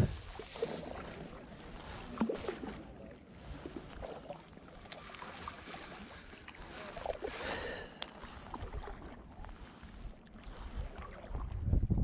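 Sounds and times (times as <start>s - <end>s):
paddle splashing in water: 0.0s - 11.7s.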